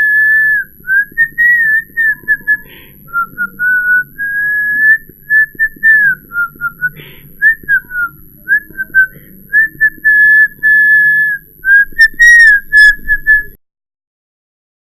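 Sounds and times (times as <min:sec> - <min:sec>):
man whistling: 0:00.0 - 0:13.6.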